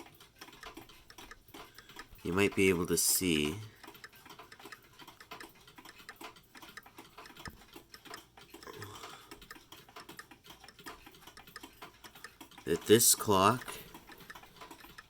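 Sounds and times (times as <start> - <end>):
mechanical clock ticking: 0.0 - 15.0.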